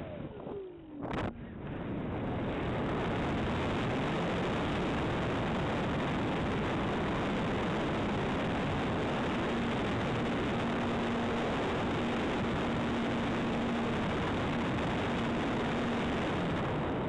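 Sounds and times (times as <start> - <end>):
faint motor hum: 0.0 - 17.0
wind and propeller noise: 0.0 - 17.0.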